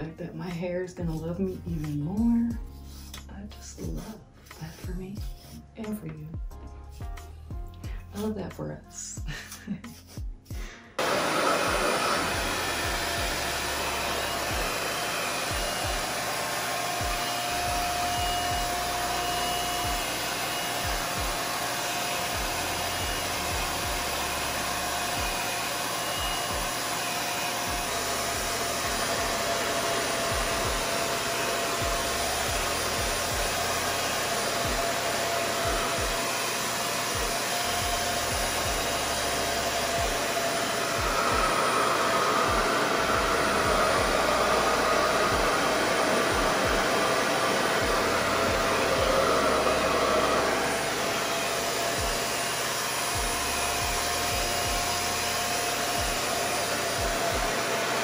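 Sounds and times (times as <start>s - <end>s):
hair dryer running: 0.0s - 2.6s, 10.6s - 58.0s.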